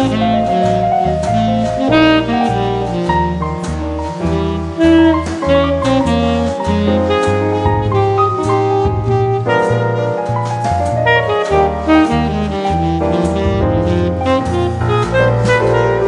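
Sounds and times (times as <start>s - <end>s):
jazz music: 0.0s - 16.0s.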